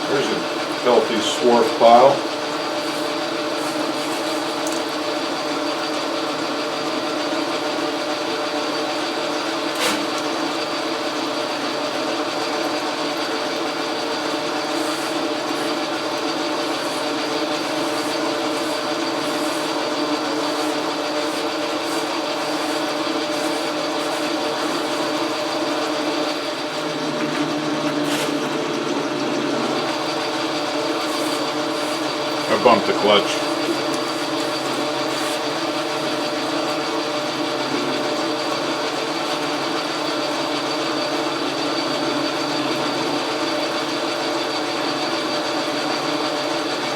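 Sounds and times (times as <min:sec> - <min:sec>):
metal lathe running: 0:00.0 - 0:46.9
gear whine: 0:08.8 - 0:46.8.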